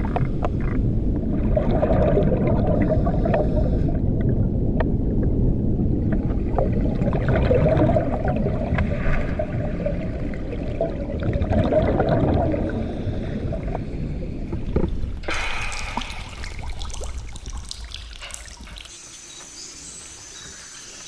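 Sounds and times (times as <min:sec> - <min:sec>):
water splashing: 0:00.0 - 0:03.9, 0:06.0 - 0:19.1
low rumble: 0:00.0 - 0:18.9
water trickling and dripping: 0:00.0 - 0:21.0.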